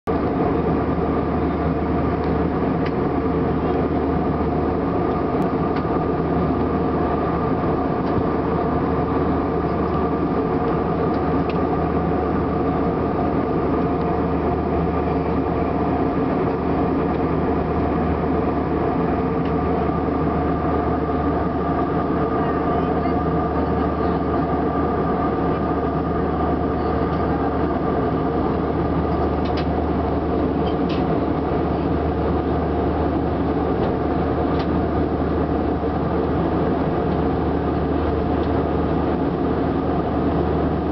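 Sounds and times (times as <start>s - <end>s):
airliner cabin engine drone: 0.1s - 40.9s
steady hums: 0.1s - 40.9s.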